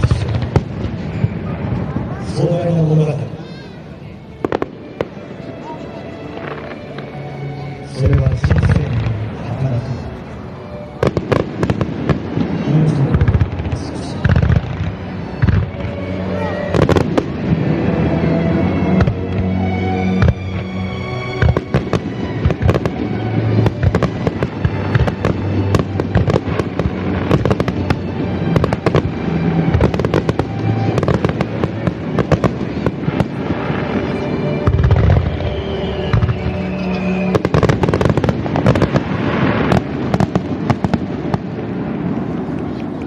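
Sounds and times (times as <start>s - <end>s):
fireworks bursting and crackling: 0.0s - 7.0s, 8.0s - 43.0s
background music: 0.0s - 43.0s.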